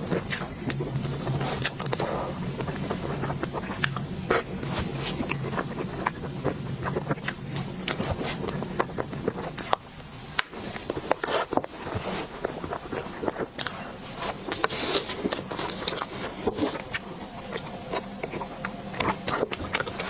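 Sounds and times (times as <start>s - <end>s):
chewing clicks and crackles: 0.0s - 20.0s.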